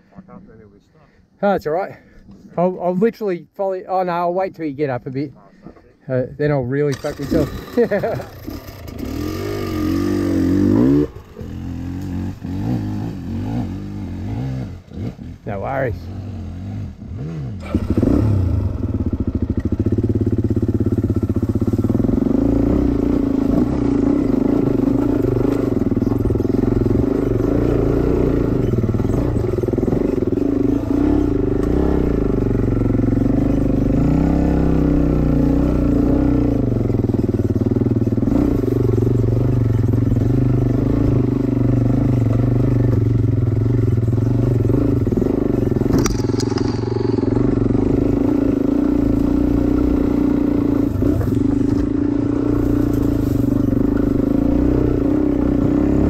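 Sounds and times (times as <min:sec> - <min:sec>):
dirt bike engine running: 0:07.0 - 0:56.0.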